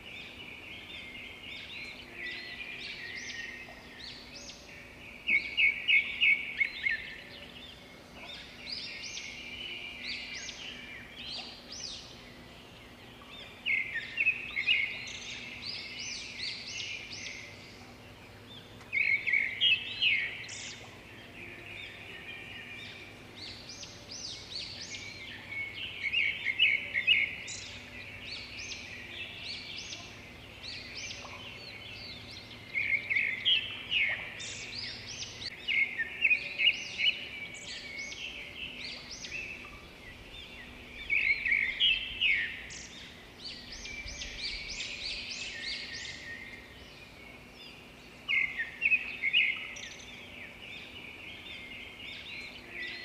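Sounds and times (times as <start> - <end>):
birds chirping: 0.0 - 53.0
faint steady hum: 0.0 - 53.0.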